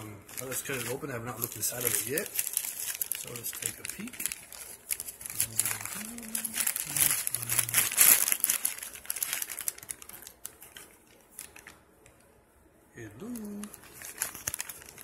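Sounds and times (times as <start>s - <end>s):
plastic bag crinkling: 0.0s - 11.8s, 13.2s - 15.0s.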